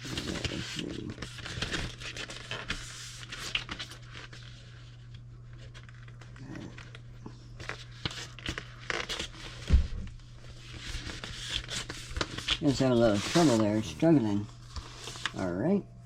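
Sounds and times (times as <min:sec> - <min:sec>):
items rustling and scraping: 0:00.0 - 0:15.8
steady low hum: 0:00.0 - 0:16.0.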